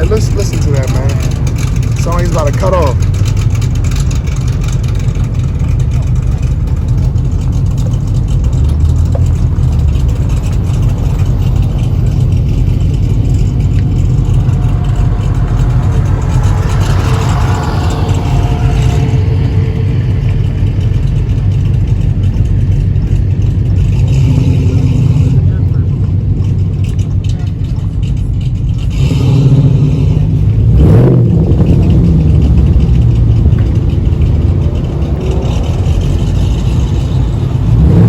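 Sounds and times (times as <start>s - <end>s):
car engine rumbling: 0.0s - 38.0s.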